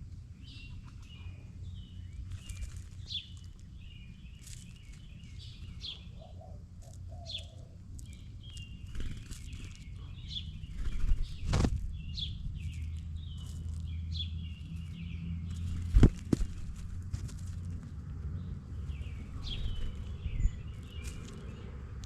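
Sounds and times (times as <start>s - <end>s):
steady low rumble: 0.0s - 22.0s
bird chirps: 0.4s - 16.8s, 18.4s - 21.8s.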